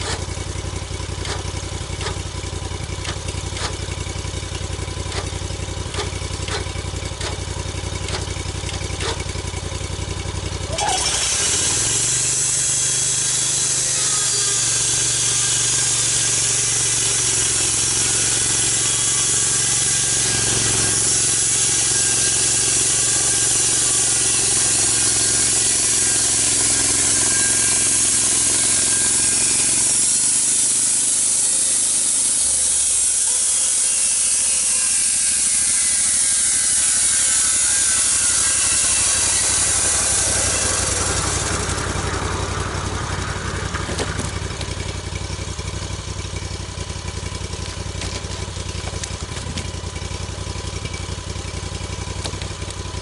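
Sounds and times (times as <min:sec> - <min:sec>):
engine idling: 0:00.0 - 0:53.0
engine-driven saw cutting log: 0:00.0 - 0:53.0.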